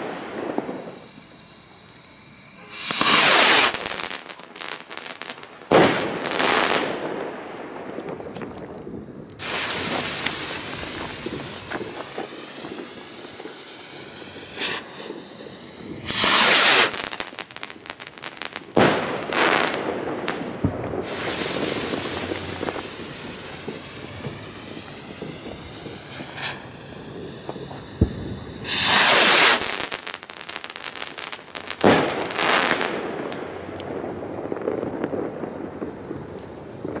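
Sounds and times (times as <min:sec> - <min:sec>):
firework bang: 0:00.0 - 0:08.7, 0:09.4 - 0:37.0
firework crackling: 0:00.0 - 0:37.0
firework rocket whooshing: 0:00.0 - 0:37.0.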